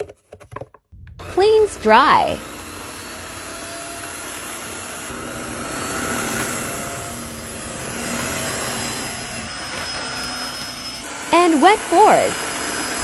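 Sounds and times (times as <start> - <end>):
vacuum cleaner running: 1.2 - 13.0.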